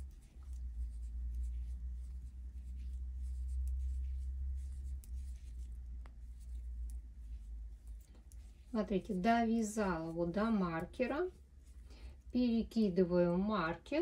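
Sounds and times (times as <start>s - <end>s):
knitting needles clicking: 0.0s - 12.3s
low steady rumble: 0.0s - 14.0s
yarn rubbing over fingers: 0.0s - 14.0s.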